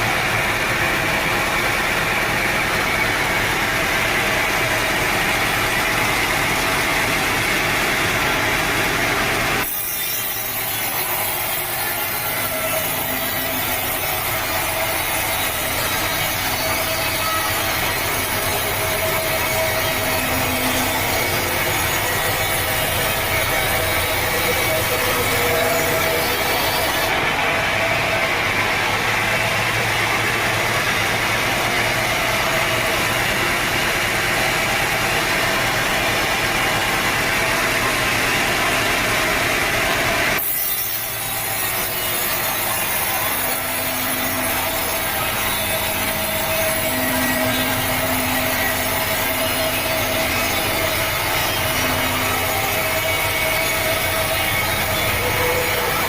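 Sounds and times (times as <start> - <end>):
saw cutting through log: 0.0 - 56.0.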